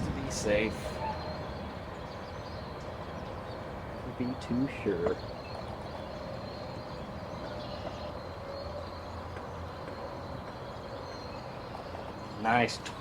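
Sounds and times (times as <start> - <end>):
faint steady tones: 0.0 - 13.0.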